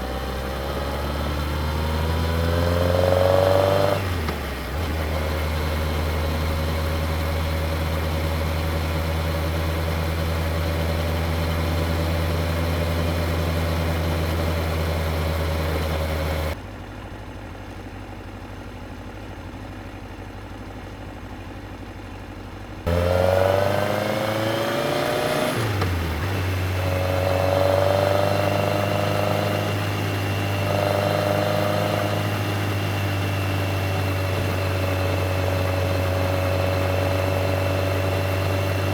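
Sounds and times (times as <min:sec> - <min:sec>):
motorcycle engine revving: 0:00.0 - 0:16.6, 0:22.8 - 0:38.9.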